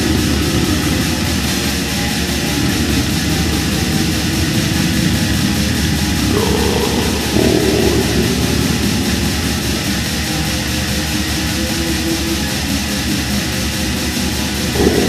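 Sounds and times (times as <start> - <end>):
distorted guitars: 0.0 - 15.0
fast dense drumming: 0.0 - 15.0.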